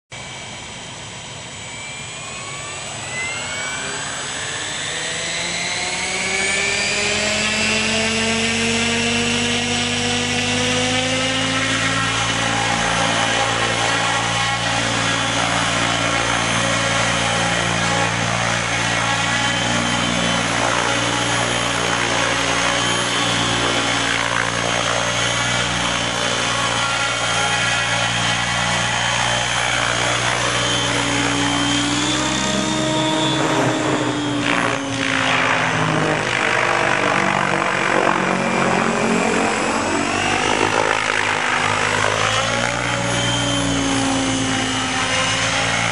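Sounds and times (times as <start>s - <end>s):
model helicopter rotor whine: 0.1s - 45.9s.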